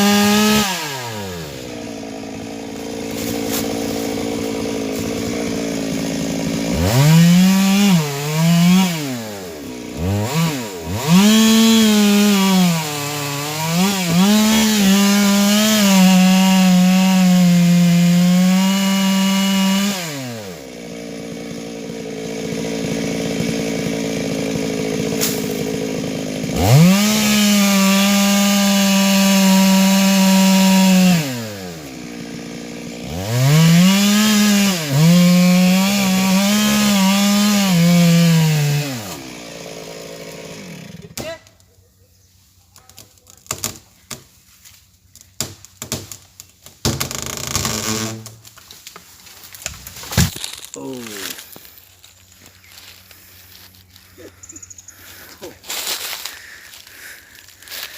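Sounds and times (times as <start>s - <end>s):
chainsaw cutting through tree: 0.0s - 41.6s, 42.7s - 57.9s.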